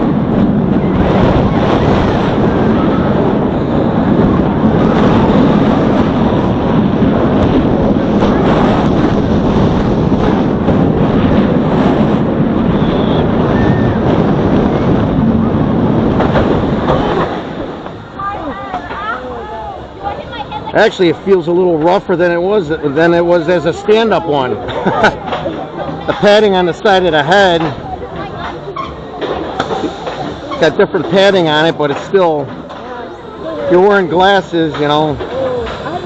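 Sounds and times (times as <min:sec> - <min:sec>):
roller coaster train rushing: 0:00.0 - 0:36.0
wind blasting over microphone: 0:00.0 - 0:36.0.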